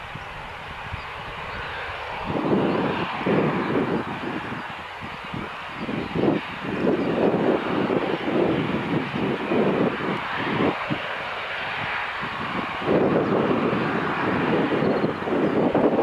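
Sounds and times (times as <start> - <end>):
jet engines at take-off: 0.0 - 16.0
wind buffeting microphone: 0.0 - 16.0.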